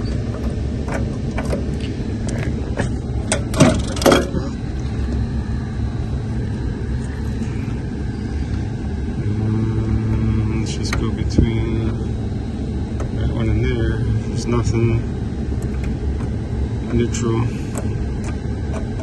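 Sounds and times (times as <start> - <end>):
air conditioning machinery hum: 0.0 - 19.0.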